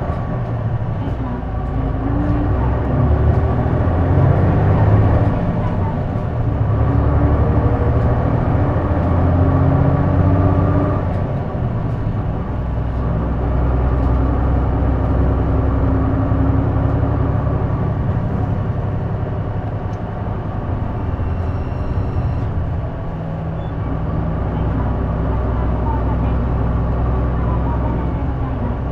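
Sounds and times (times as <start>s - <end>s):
bus diesel engine drone: 0.0s - 28.9s
road noise: 0.0s - 28.9s.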